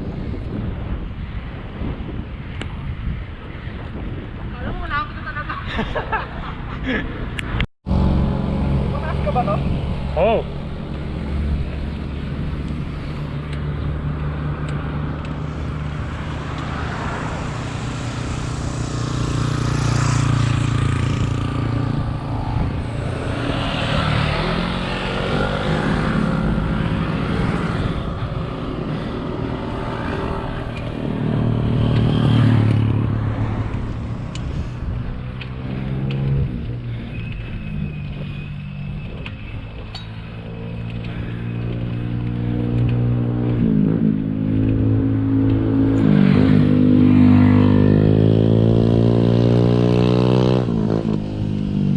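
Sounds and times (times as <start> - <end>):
road noise: 0.0 - 51.9
wind noise: 0.0 - 51.9.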